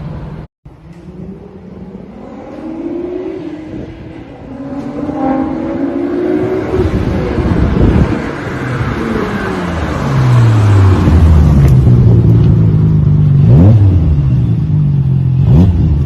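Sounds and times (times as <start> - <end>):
car engine accelerating hard: 1.1 - 14.4.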